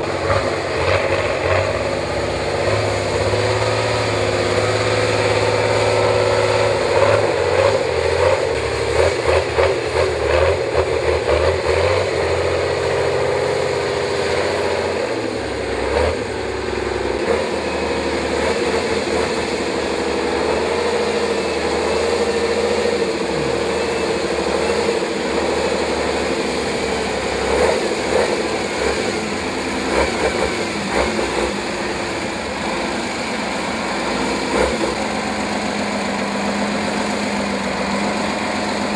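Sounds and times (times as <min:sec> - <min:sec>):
truck engine under load: 0:00.0 - 0:38.9.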